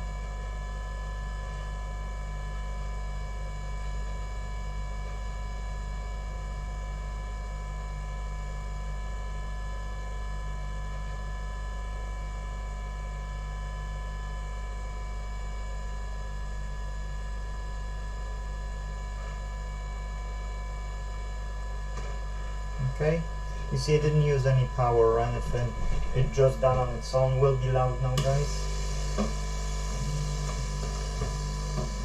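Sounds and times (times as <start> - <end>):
electrical mains hum with high whine: 0.0 - 32.0.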